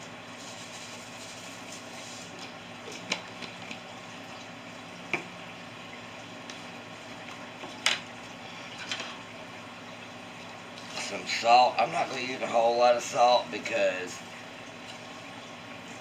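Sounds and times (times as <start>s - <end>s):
room noise hiss: 0.0s - 3.2s, 3.8s - 16.0s.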